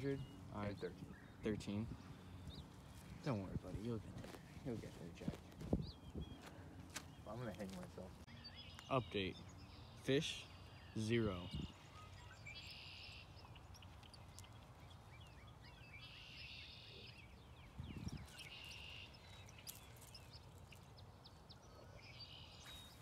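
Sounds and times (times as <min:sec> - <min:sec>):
faint trilling bird calls: 0:00.0 - 0:23.0.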